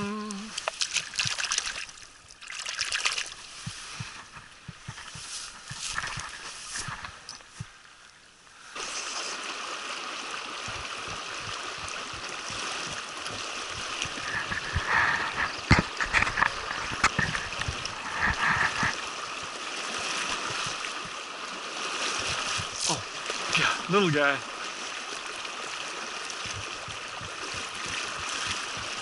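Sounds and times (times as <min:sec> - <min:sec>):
sharp knocks and splashes: 0:00.4 - 0:07.8, 0:08.8 - 0:29.0.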